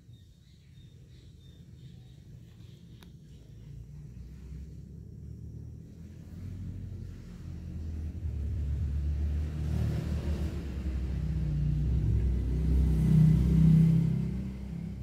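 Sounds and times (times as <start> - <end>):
low vehicle engine rumble: 0.0 - 15.0.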